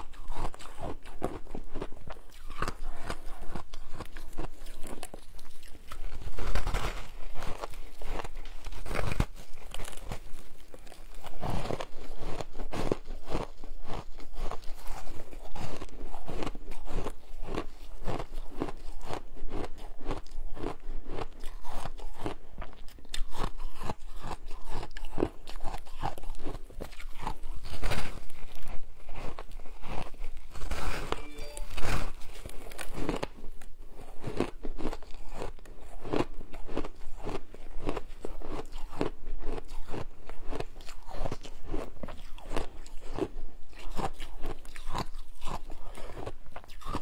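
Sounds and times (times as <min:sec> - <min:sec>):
crunching shaved ice: 0:00.0 - 0:47.0.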